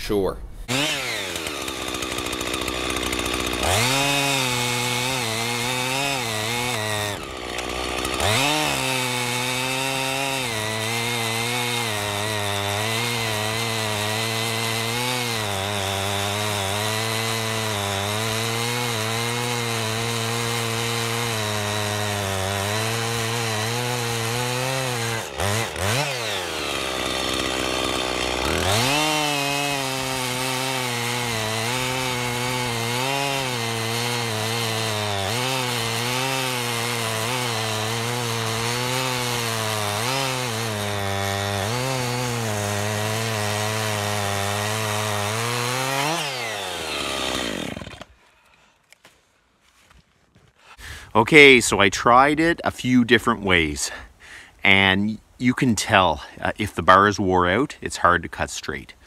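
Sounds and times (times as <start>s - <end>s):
chainsaw cutting log: 0.7s - 48.3s.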